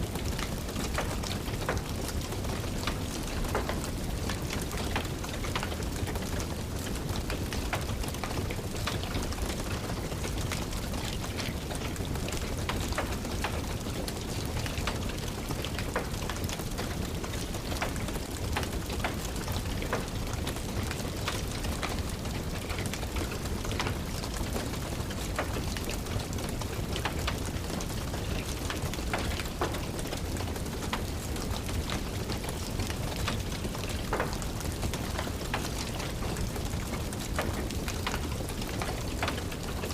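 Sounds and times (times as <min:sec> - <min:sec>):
rain falling: 0:00.0 - 0:39.9
wood fire crackling: 0:00.0 - 0:39.9.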